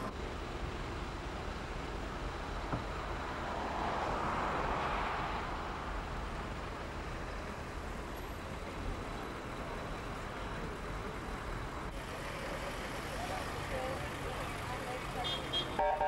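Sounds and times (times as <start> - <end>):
heavy vehicle engine rumbling: 0.0 - 16.0.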